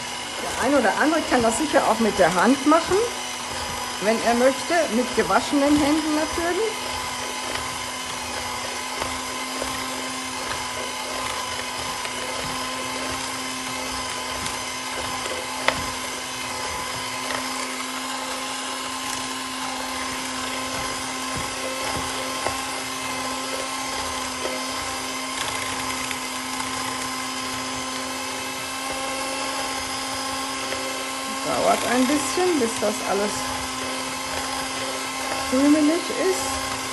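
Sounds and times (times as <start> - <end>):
electric hand mixer running: 0.0 - 36.9.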